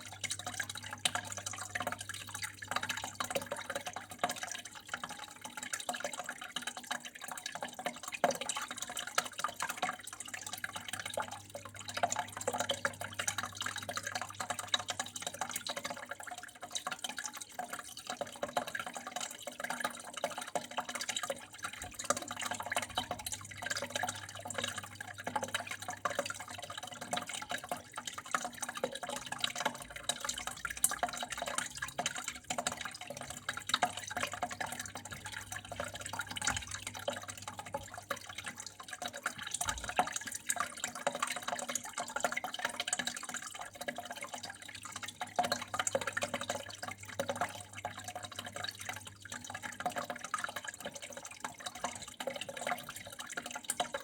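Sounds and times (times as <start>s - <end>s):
faint steady hum: 0.0s - 54.0s
small splashes and drips: 0.0s - 54.0s
water flowing and trickling: 0.0s - 54.0s.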